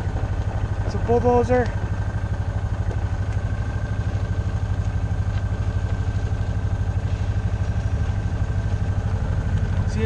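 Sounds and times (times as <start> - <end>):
thin steady whine: 0.0 - 10.0
vehicle engine rumbling: 0.0 - 10.0.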